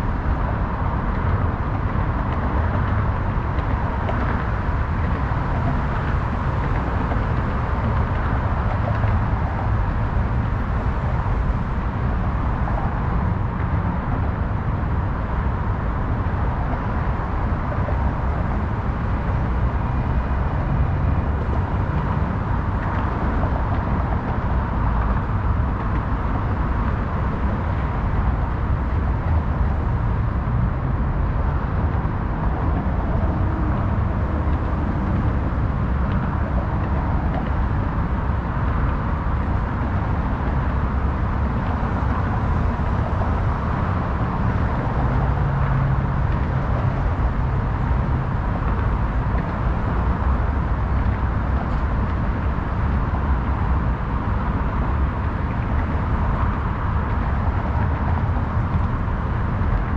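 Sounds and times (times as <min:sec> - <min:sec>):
highway traffic rumble: 0:00.0 - 0:59.9.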